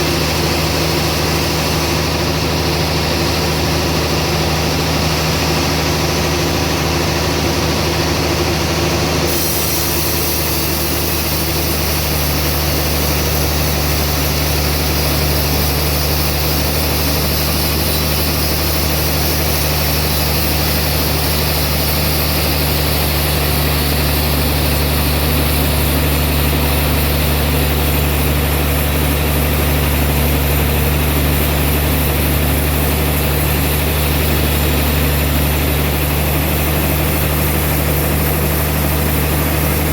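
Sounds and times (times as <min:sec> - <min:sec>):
band saw machinery humming: 0:00.0 - 0:39.9.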